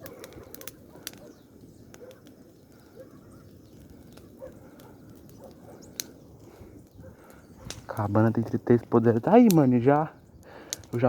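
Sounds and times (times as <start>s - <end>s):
bonfire crackling and popping: 0.0s - 11.0s
low steady fire rush: 0.0s - 11.0s.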